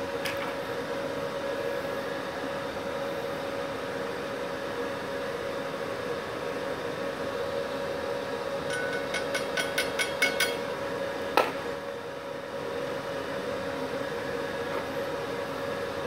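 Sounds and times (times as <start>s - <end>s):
welding machine cooling fan hum: 0.0s - 16.0s.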